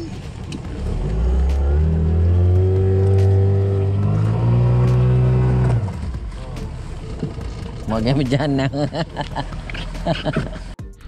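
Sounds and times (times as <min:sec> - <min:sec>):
vehicle engine revving: 0:00.0 - 0:10.8.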